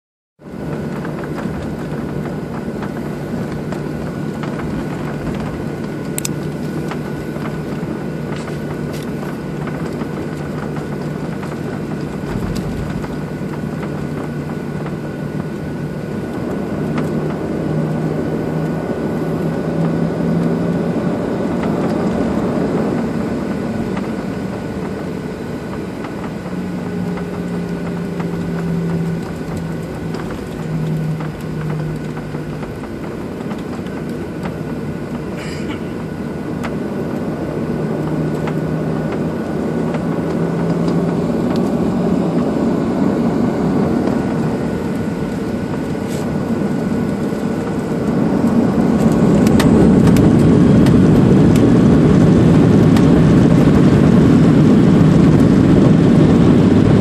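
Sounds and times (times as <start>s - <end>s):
jet engine hum and whine in cabin: 0.4s - 57.0s.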